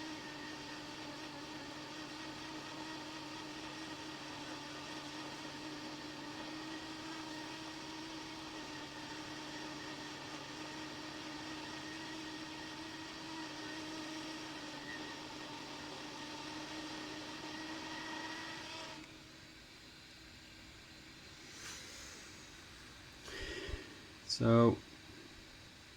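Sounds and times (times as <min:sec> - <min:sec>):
hot air blower whirring and hissing: 0:00.0 - 0:25.9.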